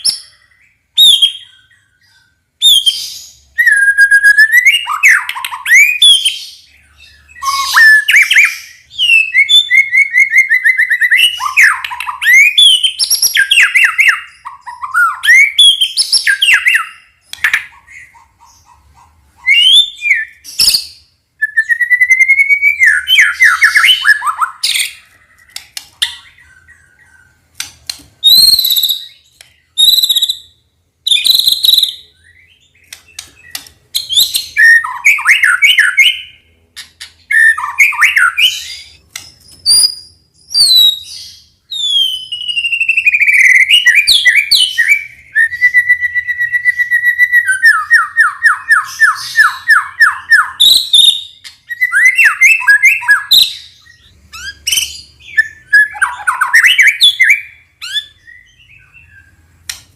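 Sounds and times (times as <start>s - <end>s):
bird singing whistled song: 0.0s - 18.2s, 19.4s - 27.4s, 28.2s - 59.8s.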